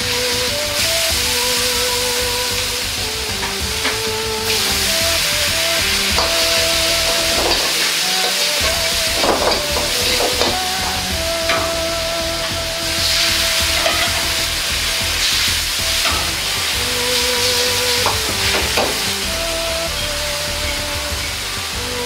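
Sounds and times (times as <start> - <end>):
meat sizzling in a wok: 0.7 - 21.8
metal ladle scraping wok: 0.8 - 21.5.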